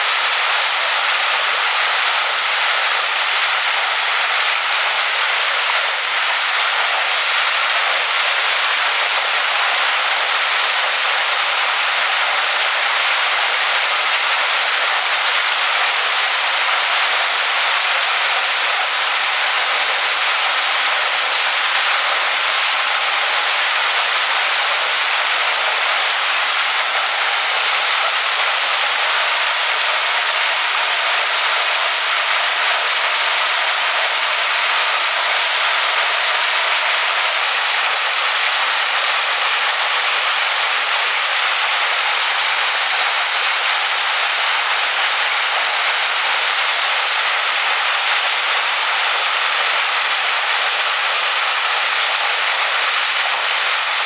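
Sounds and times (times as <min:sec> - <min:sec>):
waterfall pouring onto rocks: 0:00.0 - 0:54.0.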